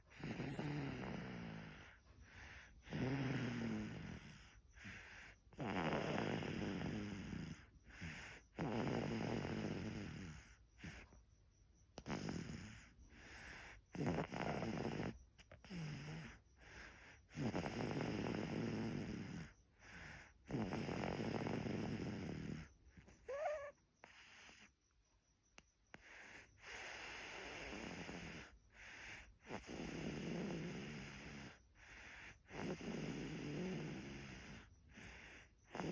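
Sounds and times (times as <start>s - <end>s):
baby snoring: 0.0s - 11.1s, 11.9s - 24.7s, 25.9s - 35.9s.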